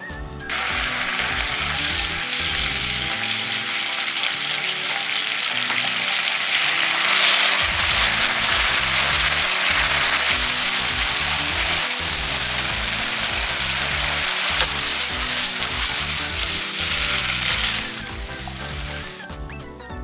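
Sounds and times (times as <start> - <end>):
background music: 0.0 - 20.0
stirring in pan: 0.5 - 19.3
food sizzling in frying pan: 0.5 - 19.4.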